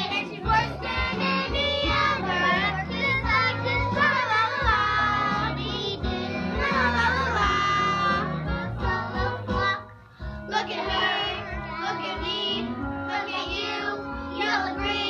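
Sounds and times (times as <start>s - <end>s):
musical accompaniment: 0.0s - 15.0s
voices singing: 0.0s - 15.0s.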